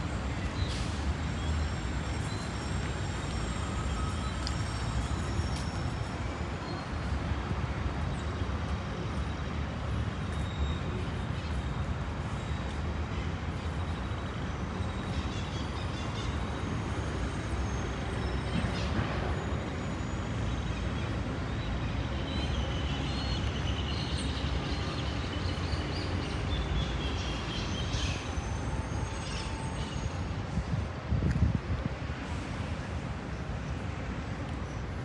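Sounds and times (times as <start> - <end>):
city traffic rumble: 0.0 - 35.0.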